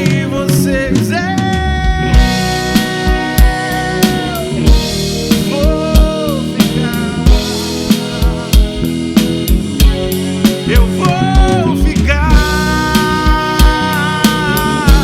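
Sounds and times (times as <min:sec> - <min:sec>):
person singing: 0:00.0 - 0:09.4, 0:10.5 - 0:15.0
live band music: 0:00.0 - 0:15.0
drum kick and snare hits: 0:01.5 - 0:15.0.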